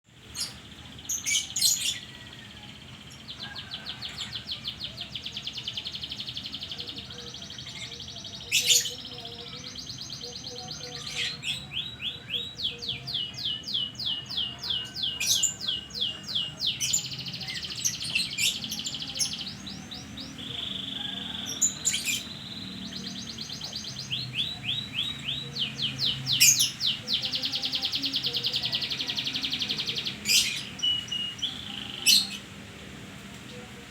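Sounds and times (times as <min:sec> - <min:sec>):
canary singing: 0:00.1 - 0:32.6.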